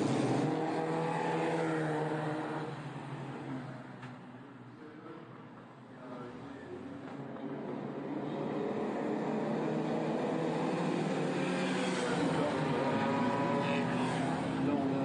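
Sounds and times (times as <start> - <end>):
racing car engines approaching: 0.0 - 15.0.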